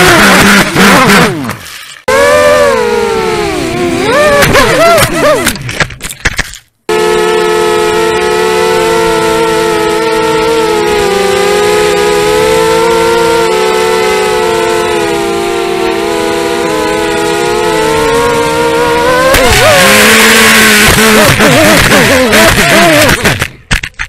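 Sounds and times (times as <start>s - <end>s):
drone motors whining: 0.0s - 5.8s, 6.9s - 23.5s.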